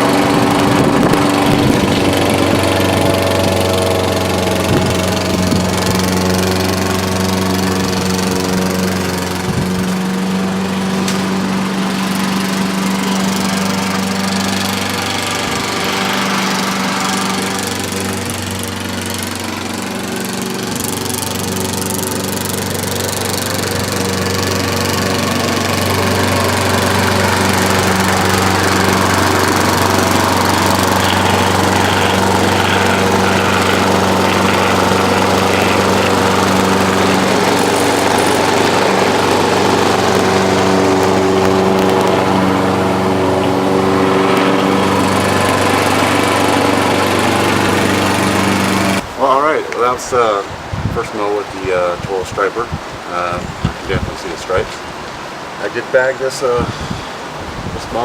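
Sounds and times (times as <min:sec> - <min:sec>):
gas lawn mower mowing grass: 0:00.0 - 0:58.0.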